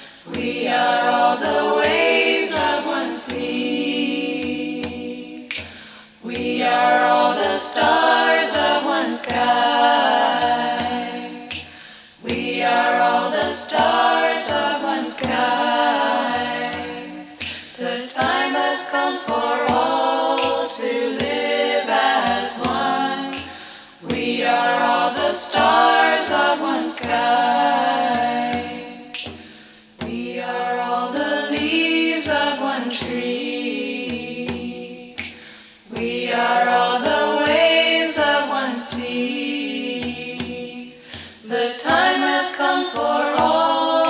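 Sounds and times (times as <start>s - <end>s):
a cappella vocal group singing: 0.0s - 44.0s.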